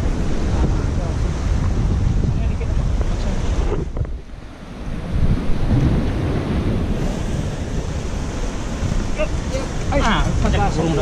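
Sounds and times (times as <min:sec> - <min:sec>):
surf breaking against rocks: 0:00.0 - 0:11.0
wind buffeting microphone: 0:00.0 - 0:11.0.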